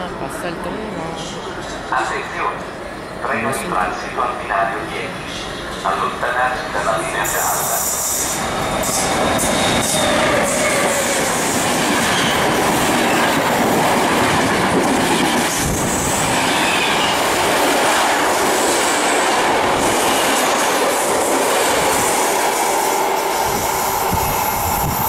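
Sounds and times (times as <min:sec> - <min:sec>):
train wheels rushing on rails: 0:01.2 - 0:25.0.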